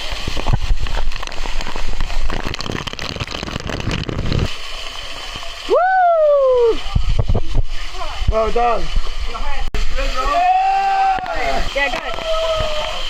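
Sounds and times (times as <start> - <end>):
falling water and spray pattering: 0.0 - 5.8, 6.4 - 10.3, 11.0 - 13.0.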